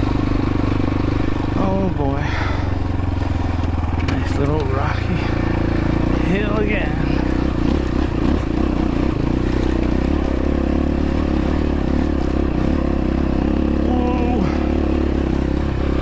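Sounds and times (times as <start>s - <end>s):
dirt bike engine under load: 0.0s - 12.9s.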